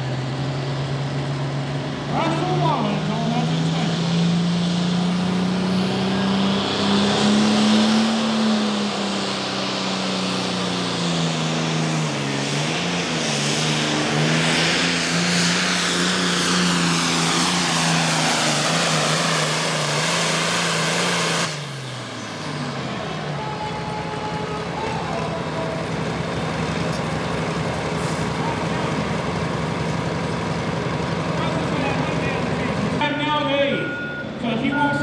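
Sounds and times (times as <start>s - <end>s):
tractor diesel engine at high revs: 0.0s - 35.0s.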